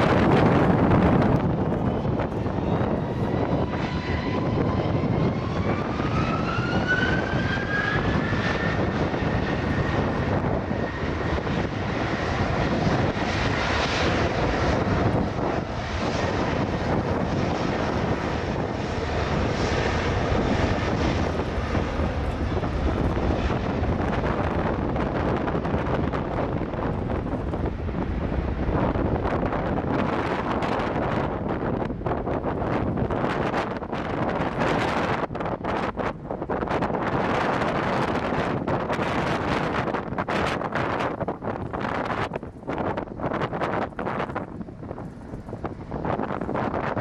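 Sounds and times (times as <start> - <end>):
jet engines roaring: 0.0 - 47.0
rising engine whine: 0.0 - 47.0.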